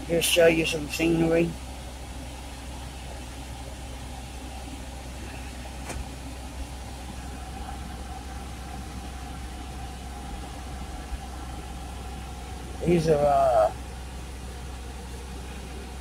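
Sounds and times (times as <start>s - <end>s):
vehicle engine and tyres rumble: 0.0s - 16.0s.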